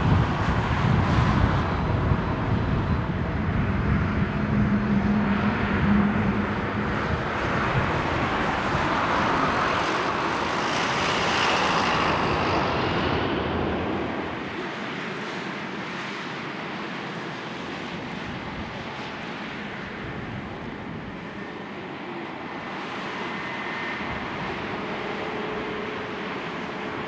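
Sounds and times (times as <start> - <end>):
jet airliner engines roaring: 0.0 - 27.0.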